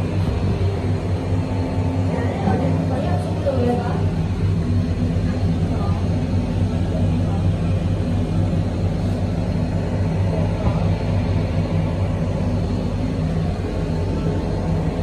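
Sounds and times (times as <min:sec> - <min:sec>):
cable car cabin rumble and hum: 0:00.0 - 0:15.0.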